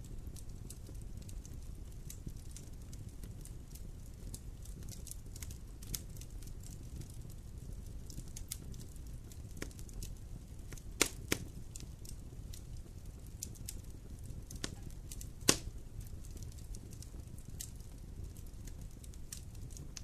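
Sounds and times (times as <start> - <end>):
campfire burning: 0.0 - 20.0.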